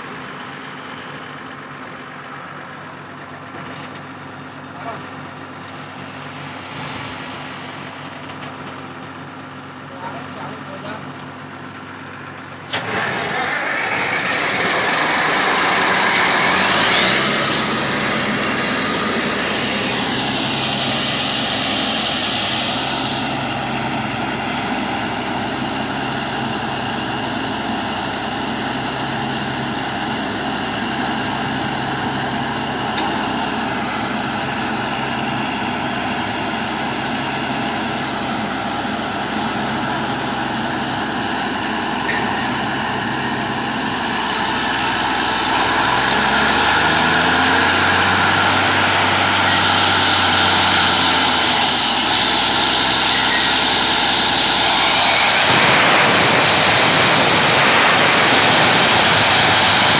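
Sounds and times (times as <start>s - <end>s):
air compressor whine: 0.0s - 59.9s
diesel engine drone: 0.0s - 59.9s.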